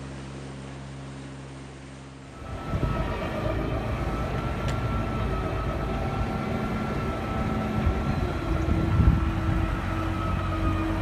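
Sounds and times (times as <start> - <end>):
boat engine rumbling: 0.0 - 11.0
high whine: 0.0 - 11.0.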